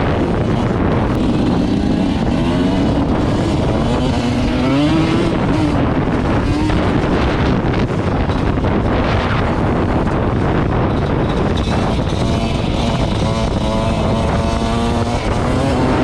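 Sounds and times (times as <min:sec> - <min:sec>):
off-road vehicle engine revving: 0:00.0 - 0:16.0
wind noise on microphone: 0:00.0 - 0:16.0.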